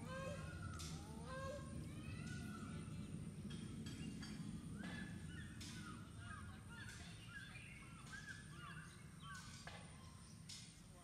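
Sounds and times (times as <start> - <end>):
low steady rumble: 0.0 - 9.3
birds chirping: 0.0 - 11.0.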